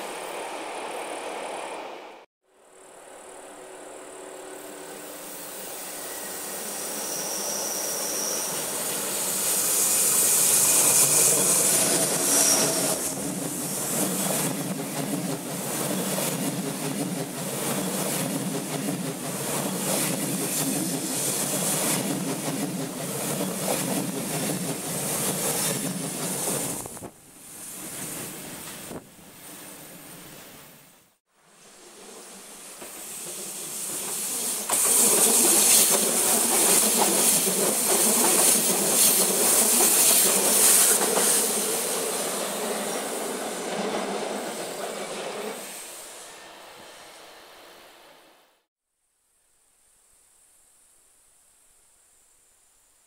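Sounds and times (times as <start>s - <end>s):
train passing: 0.0s - 2.3s, 2.9s - 30.6s, 31.4s - 48.7s.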